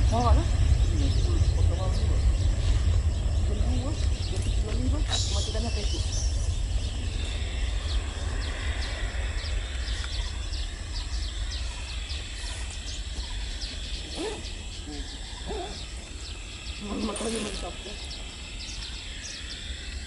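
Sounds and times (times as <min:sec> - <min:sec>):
birds chirping: 0:00.0 - 0:20.0
steady low rumble: 0:00.0 - 0:20.0.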